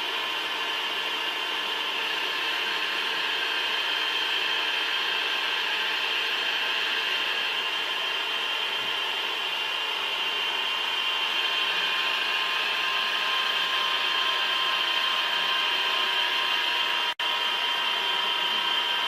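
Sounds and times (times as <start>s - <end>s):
machine whine: 0.0s - 19.0s.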